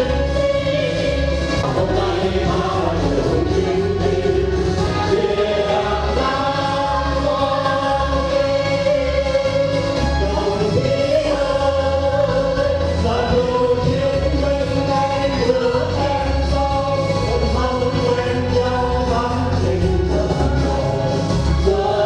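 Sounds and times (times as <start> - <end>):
backing music with bass beat: 0.0 - 22.0
group singing together: 0.0 - 22.0.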